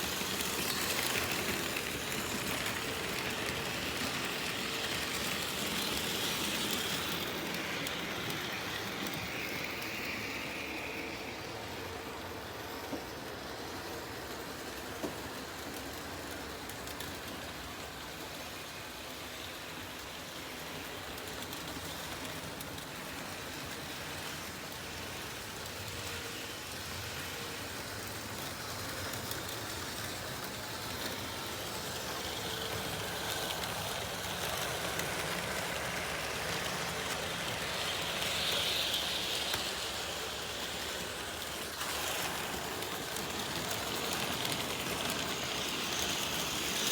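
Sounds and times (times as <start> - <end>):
model train whirring on rails: 0.0 - 46.9.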